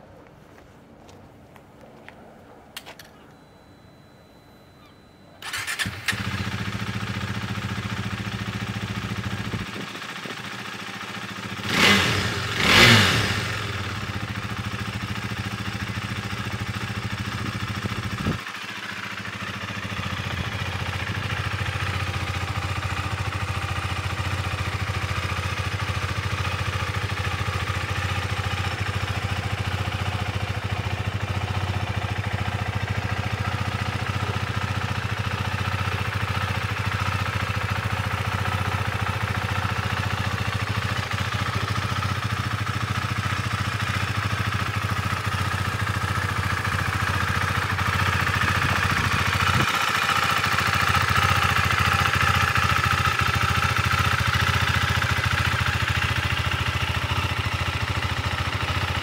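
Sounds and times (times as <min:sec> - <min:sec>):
motorcycle engine idling and revving: 0:04.8 - 0:59.0.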